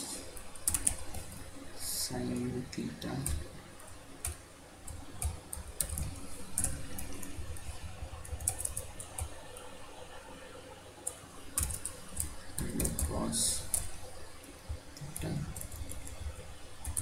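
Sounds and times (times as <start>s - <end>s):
computer keyboard typing: 0.2s - 1.4s, 2.1s - 9.8s, 11.0s - 17.0s.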